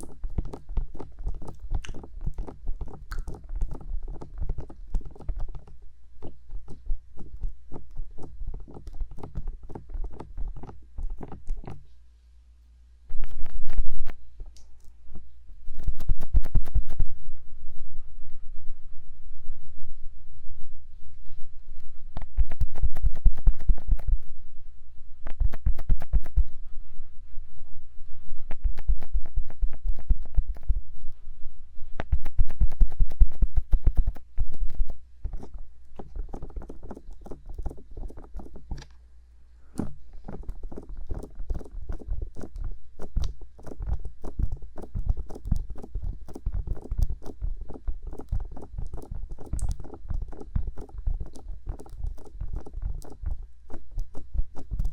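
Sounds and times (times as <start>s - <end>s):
fingertips tapping microphone: 0.0s - 12.0s, 13.1s - 17.5s, 21.3s - 24.4s, 25.2s - 26.7s, 28.2s - 39.0s, 39.6s - 54.9s.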